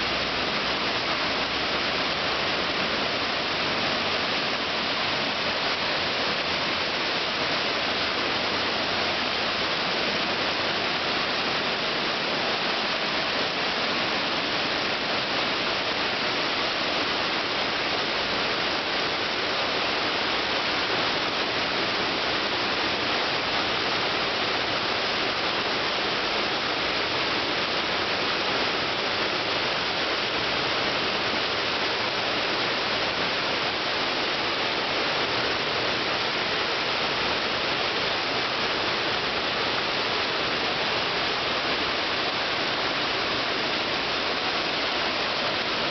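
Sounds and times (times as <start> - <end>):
waterfall rushing into pool: 0.0 - 45.9.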